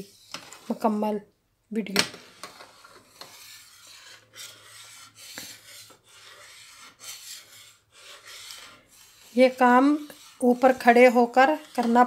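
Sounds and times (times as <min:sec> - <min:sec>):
spatula scraping steel pan: 0:02.2 - 0:12.0.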